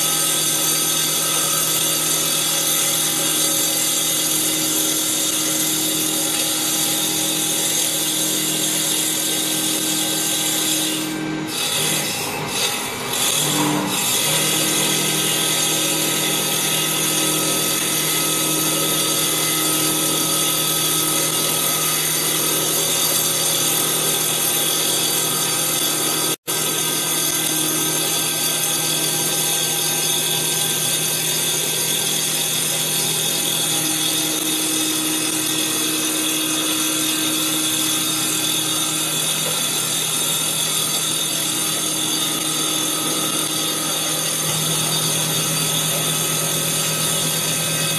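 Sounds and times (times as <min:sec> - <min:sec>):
lathe saw blade whining: 0:00.0 - 0:47.9.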